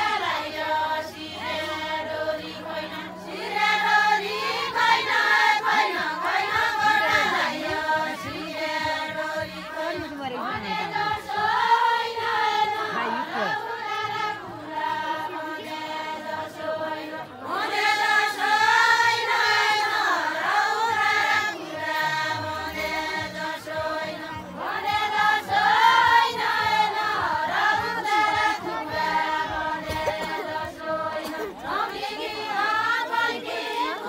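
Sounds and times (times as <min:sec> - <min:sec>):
women singing in unison: 0:00.0 - 0:34.0.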